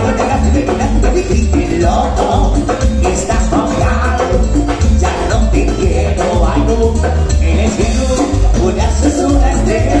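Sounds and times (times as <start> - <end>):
congas: 0.0 - 10.0
pulsing bass: 0.0 - 10.0.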